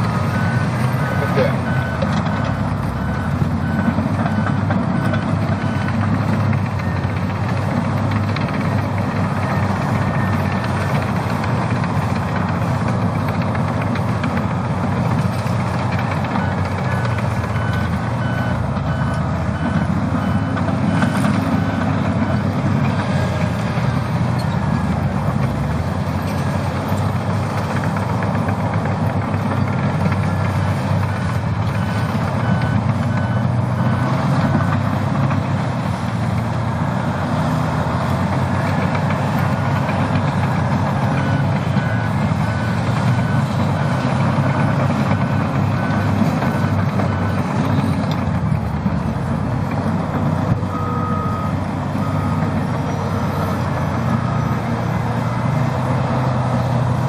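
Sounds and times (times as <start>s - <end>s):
reversing alarm beeping: 0.0s - 35.6s, 36.4s - 56.6s
diesel earthmoving machines: 0.0s - 57.0s.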